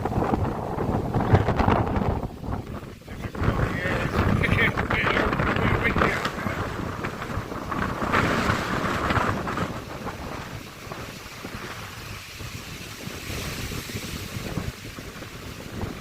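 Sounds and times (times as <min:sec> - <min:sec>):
gusty wind on microphone: 0:00.0 - 0:16.0.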